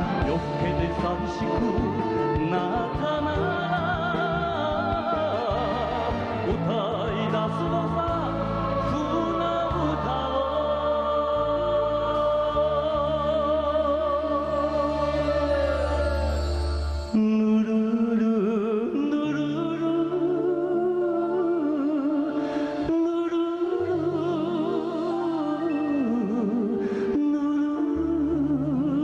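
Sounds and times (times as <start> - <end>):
band playing slow ballad: 0.0 - 24.1.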